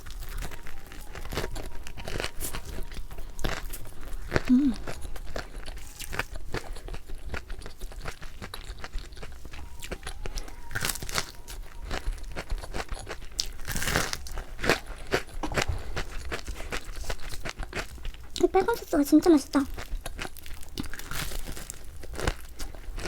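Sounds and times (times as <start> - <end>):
crunchy food being chewed: 0.0 - 23.0.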